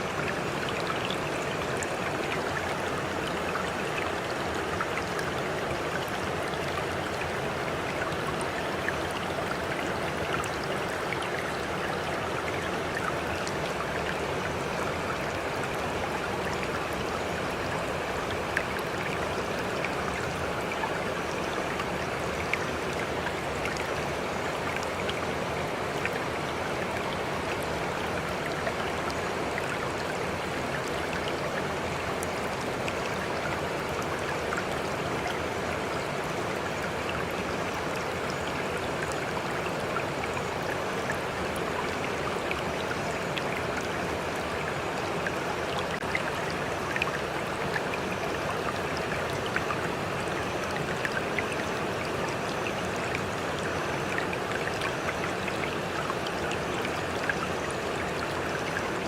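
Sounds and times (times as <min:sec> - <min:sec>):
water flowing steadily: 0:00.0 - 0:59.0.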